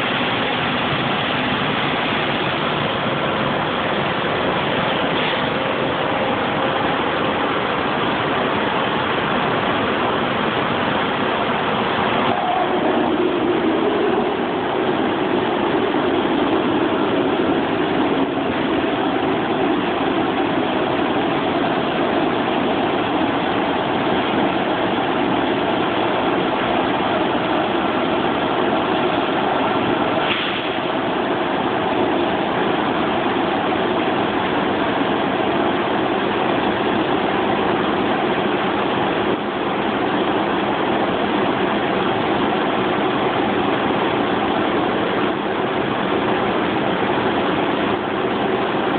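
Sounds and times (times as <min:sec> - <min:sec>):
glass washing machine running: 0:00.0 - 0:48.9.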